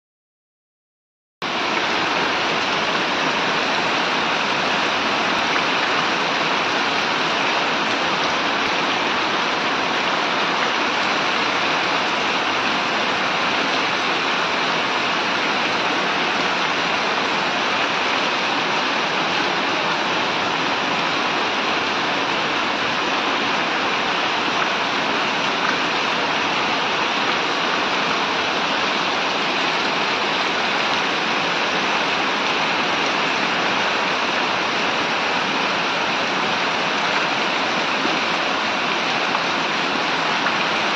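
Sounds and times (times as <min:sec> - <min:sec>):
rain falling on wet street: 0:01.4 - 0:40.9.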